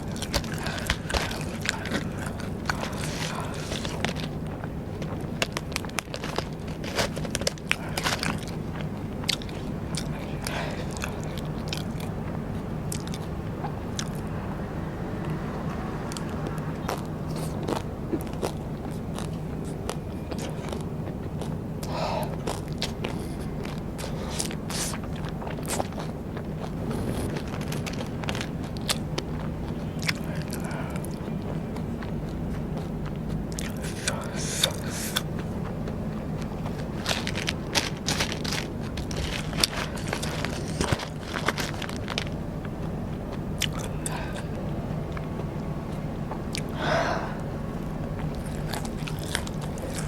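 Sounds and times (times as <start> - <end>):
chewing crunchy snacks: 0.0 - 14.4, 15.2 - 50.0
low steady hum: 0.0 - 50.0.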